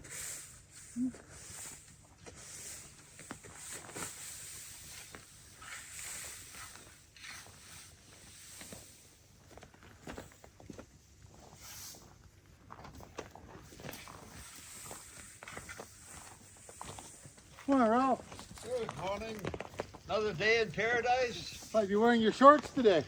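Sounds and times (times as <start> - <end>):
faint footsteps outdoors: 0.6 - 23.0.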